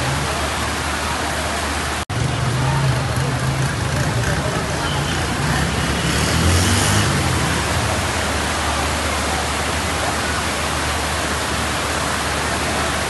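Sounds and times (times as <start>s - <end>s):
floodwater rushing down street: 0.0s - 13.0s.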